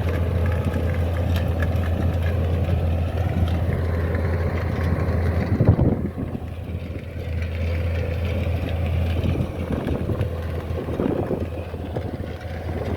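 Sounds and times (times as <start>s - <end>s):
harvester engine running: 0.0s - 12.9s.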